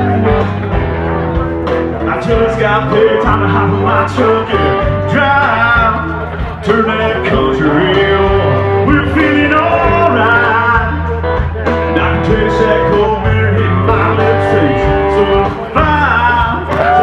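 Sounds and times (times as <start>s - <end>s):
country music with singing: 0.0s - 17.0s
guitar: 0.0s - 17.0s.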